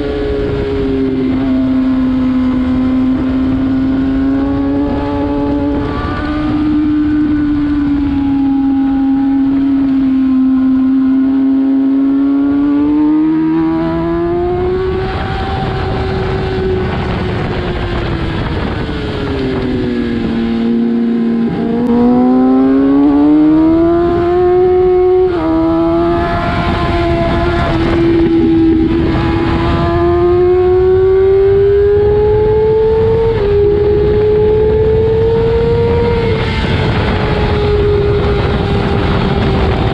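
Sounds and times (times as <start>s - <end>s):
motorcycle engine at high revs: 0.0s - 39.9s
wind buffeting microphone: 0.0s - 39.9s.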